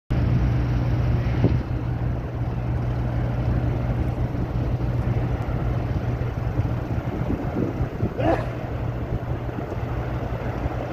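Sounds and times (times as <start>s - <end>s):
low machinery drone: 0.1s - 10.9s.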